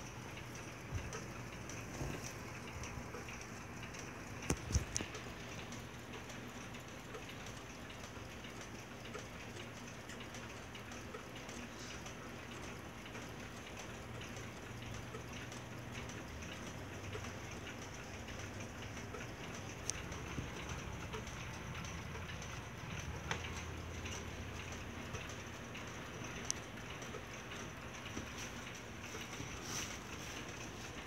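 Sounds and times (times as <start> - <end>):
many clocks ticking: 0.0 - 31.0.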